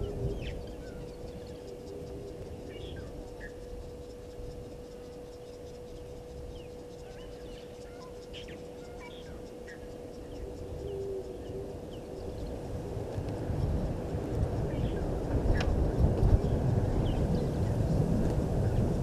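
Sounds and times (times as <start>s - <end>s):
insect ticking: 0.0s - 19.0s
steady low hum: 0.0s - 19.0s.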